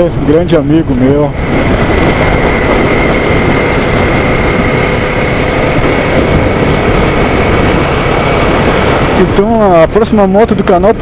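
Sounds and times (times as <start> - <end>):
motorcycle engine at road speed: 0.0 - 11.0
riding wind rush: 0.0 - 11.0.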